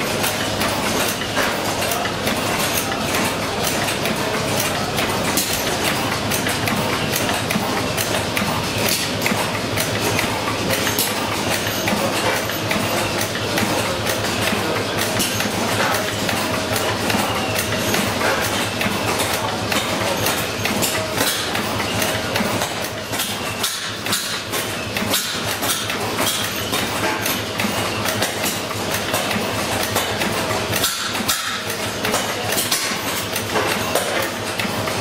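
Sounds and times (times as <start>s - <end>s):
stationary engine running: 0.0s - 35.0s.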